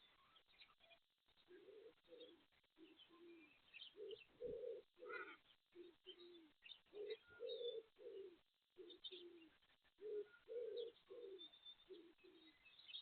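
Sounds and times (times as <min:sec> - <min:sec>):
small birds chirping: 0:00.0 - 0:13.0
doves cooing: 0:01.5 - 0:12.6.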